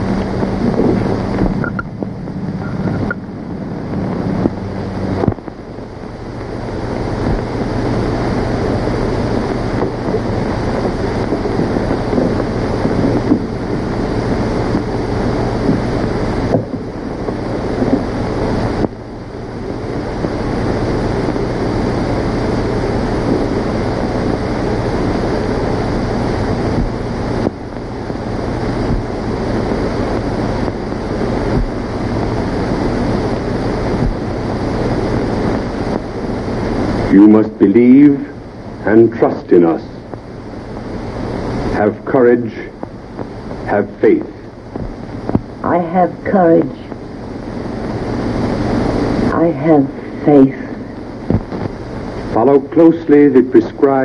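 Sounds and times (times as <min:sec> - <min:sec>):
film soundtrack hiss: 0:00.0 - 0:54.0
low hum: 0:00.0 - 0:54.0.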